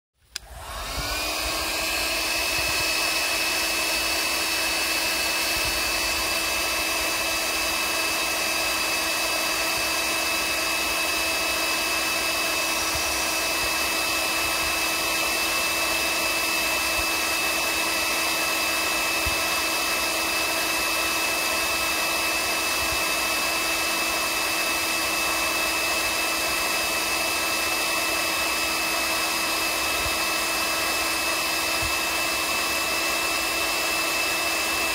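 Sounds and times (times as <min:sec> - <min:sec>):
heat gun blowing air: 0:00.2 - 0:34.9
heat gun fan whining: 0:00.2 - 0:34.9.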